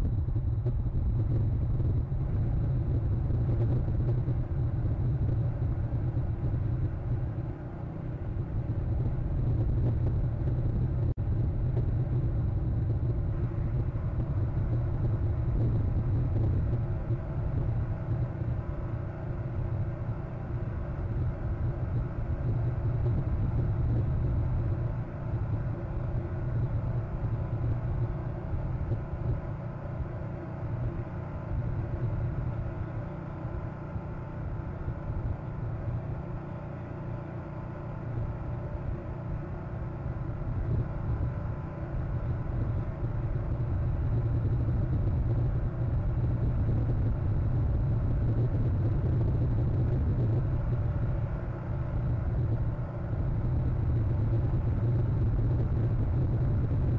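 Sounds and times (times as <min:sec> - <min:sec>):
low outdoor rumble: 0:00.0 - 0:56.9.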